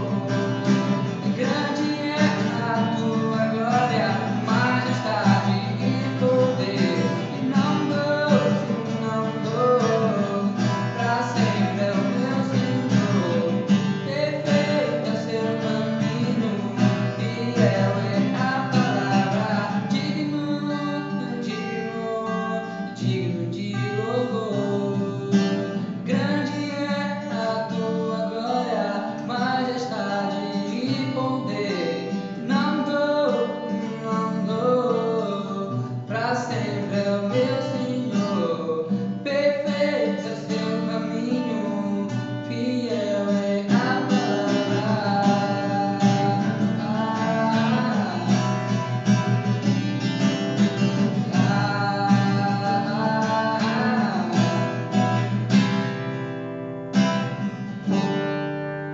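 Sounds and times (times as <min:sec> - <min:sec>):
man singing: 0:00.0 - 0:55.7
acoustic guitar strumming: 0:00.0 - 0:58.9.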